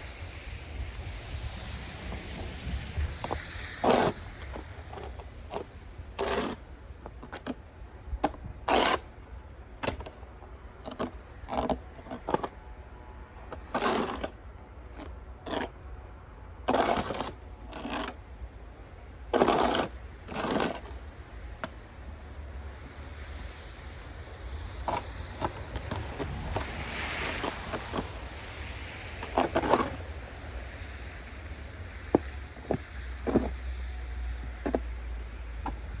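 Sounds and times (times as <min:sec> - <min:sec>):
snow shovel scraping snow: 0:00.0 - 0:18.6, 0:19.2 - 0:30.1, 0:32.1 - 0:33.6, 0:34.4 - 0:35.0
low wind rumble: 0:00.0 - 0:36.0.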